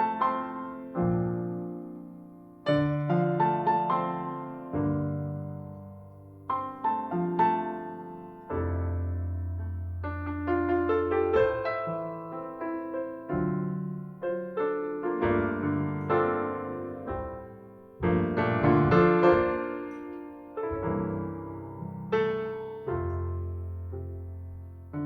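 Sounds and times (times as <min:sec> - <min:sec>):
solo jazz piano ballad: 0:00.0 - 0:25.0.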